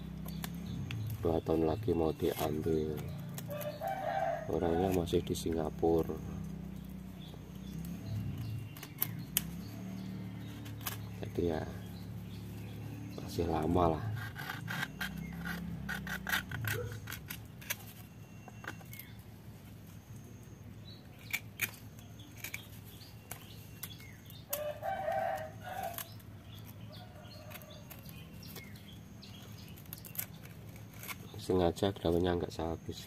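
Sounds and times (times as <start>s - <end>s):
bird calling: 0.0s - 31.6s
dry fibres tearing and crackling: 0.1s - 19.2s, 21.1s - 32.3s.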